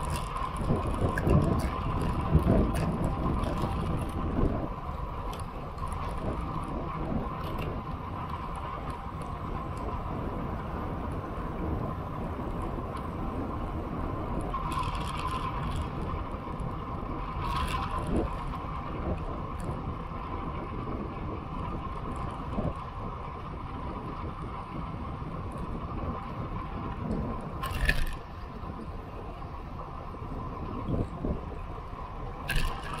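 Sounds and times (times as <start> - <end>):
tyres rolling on asphalt: 0.0 - 33.0
wind rushing over microphone: 0.0 - 33.0.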